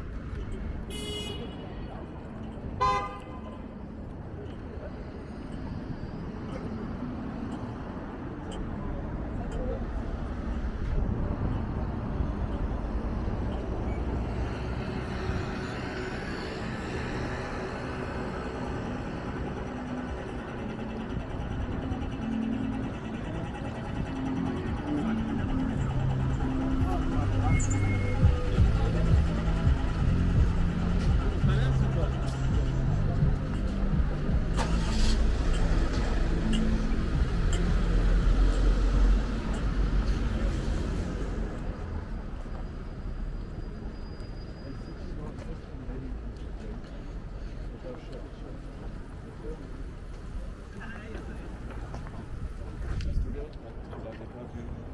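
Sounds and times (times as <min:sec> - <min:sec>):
street traffic passing: 0:00.0 - 0:54.9
vehicle engine rumbling: 0:00.0 - 0:54.9.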